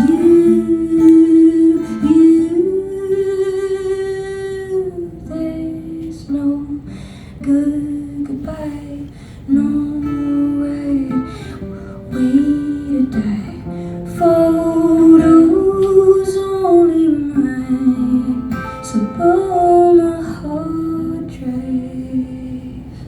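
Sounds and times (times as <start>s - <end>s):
acoustic guitar: 0.0s - 23.0s
woman singing: 0.0s - 23.0s.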